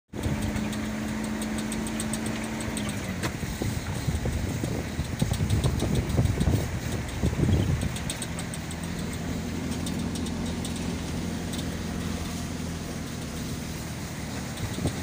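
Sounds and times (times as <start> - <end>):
road noise: 0.1 - 15.0
vehicle engine hum: 0.1 - 15.0.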